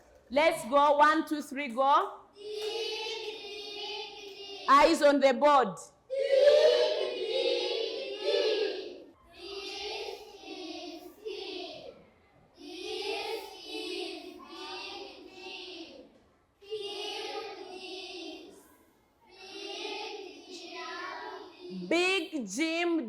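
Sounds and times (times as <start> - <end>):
children reading aloud in unison: 2.4 - 5.2, 6.1 - 12.0, 12.6 - 22.7.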